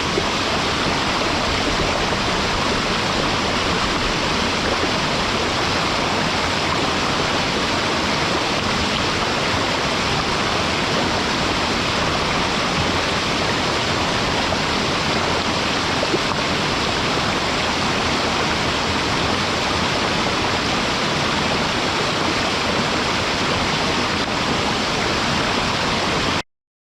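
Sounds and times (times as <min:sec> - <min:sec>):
waterfall pouring into pool: 0:00.0 - 0:26.4.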